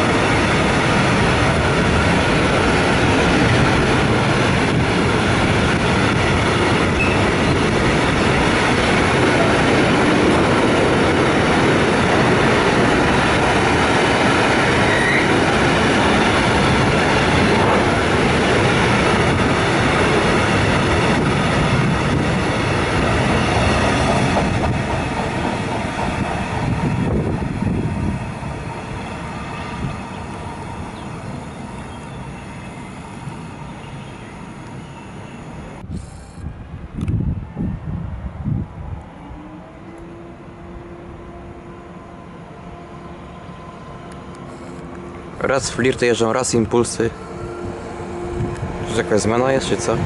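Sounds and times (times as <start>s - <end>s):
freight train wheels rumbling: 0.0s - 50.0s.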